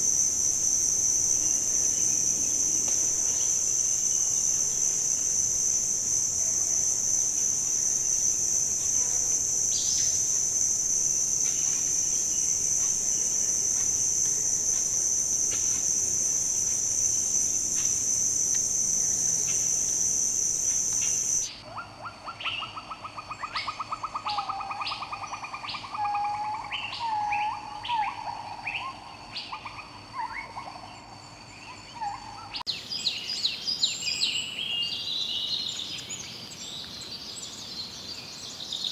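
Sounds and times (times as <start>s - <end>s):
birds calling and trilling: 0.0s - 38.9s
insects droning: 0.0s - 38.9s.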